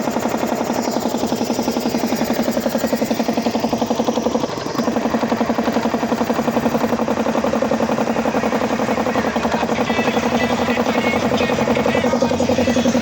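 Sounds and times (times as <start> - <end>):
air compressor pulsing: 0.0 - 13.0.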